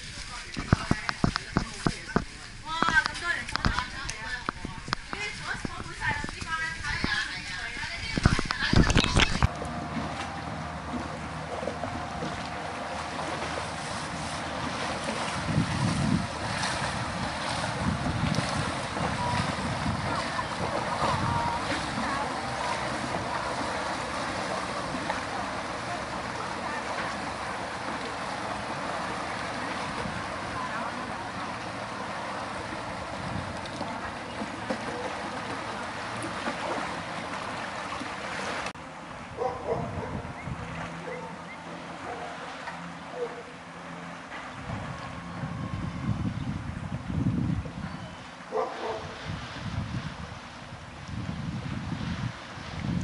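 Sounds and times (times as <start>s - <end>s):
wind buffeting microphone: 0.0s - 41.3s, 44.4s - 53.0s
motorboat engine running: 0.0s - 53.0s
water noise: 0.0s - 53.0s.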